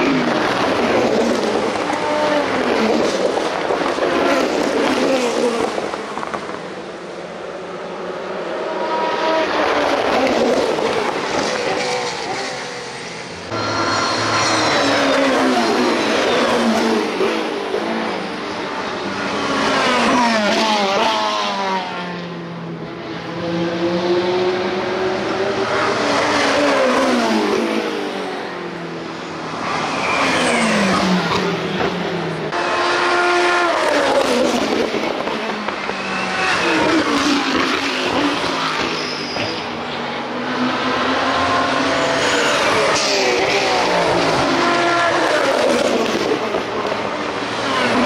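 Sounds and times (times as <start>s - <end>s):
race cars passing at speed: 0.0s - 48.0s.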